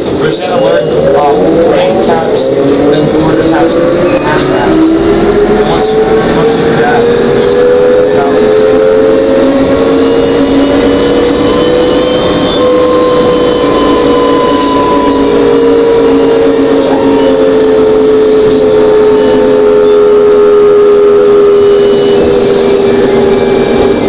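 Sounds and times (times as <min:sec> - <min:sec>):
road and tyre noise: 0:00.0 - 0:24.0.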